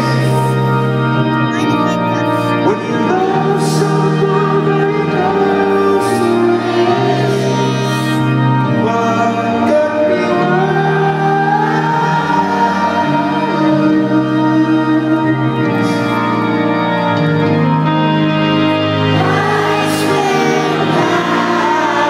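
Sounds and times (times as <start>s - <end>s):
man singing lead vocal: 0.0s - 0.9s, 2.5s - 16.4s, 19.0s - 22.0s
sustained organ chords: 0.0s - 22.0s.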